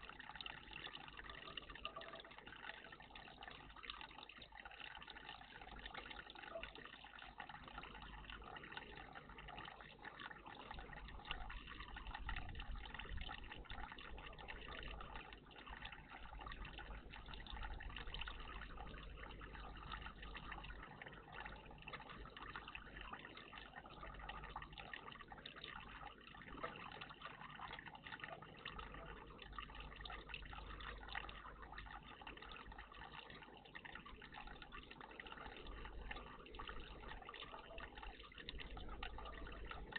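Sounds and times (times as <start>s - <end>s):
constant low hum: 0.0s - 39.9s
trickle of running water: 0.0s - 39.9s.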